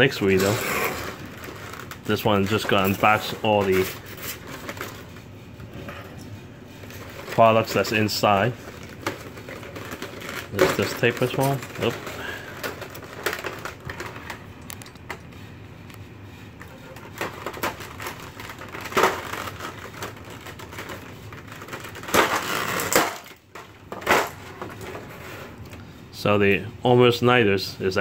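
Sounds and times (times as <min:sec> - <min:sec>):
plastic trays crackling and clicking: 0:00.2 - 0:05.2, 0:06.8 - 0:16.0, 0:16.6 - 0:25.0.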